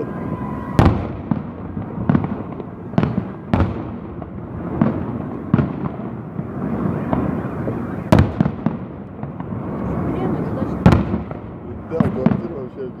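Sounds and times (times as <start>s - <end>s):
firework booms with echo: 0.0s - 13.0s.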